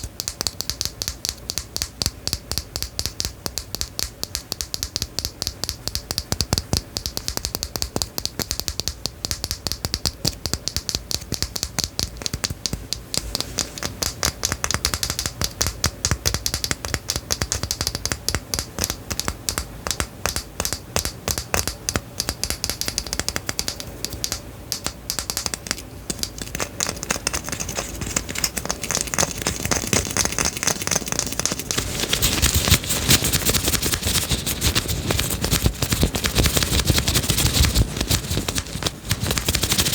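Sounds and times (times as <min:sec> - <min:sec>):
rapid clicking and tapping: 0:00.0 - 0:39.9.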